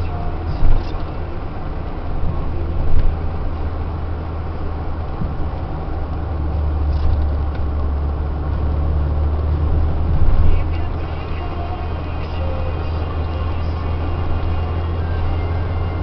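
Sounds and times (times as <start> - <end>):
car engine droning: 0.0 - 16.0
road noise: 0.0 - 16.0.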